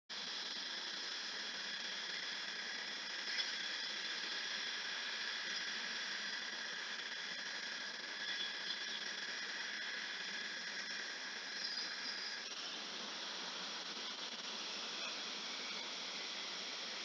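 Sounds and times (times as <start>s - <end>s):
jet engine whine and hiss: 0.1s - 17.0s.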